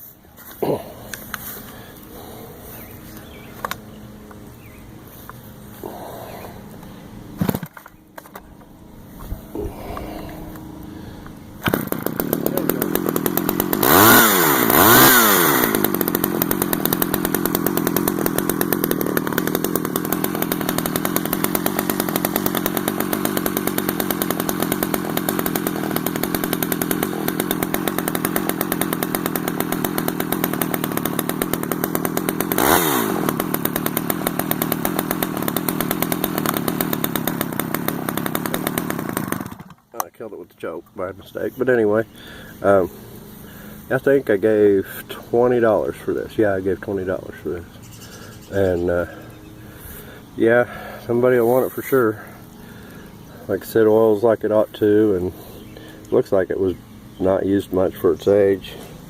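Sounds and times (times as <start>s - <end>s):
chainsaw starting and idling: 0.4s - 40.2s, 40.8s - 59.0s
chainsaw revving: 0.6s - 7.7s, 8.7s - 40.0s, 41.5s - 59.0s.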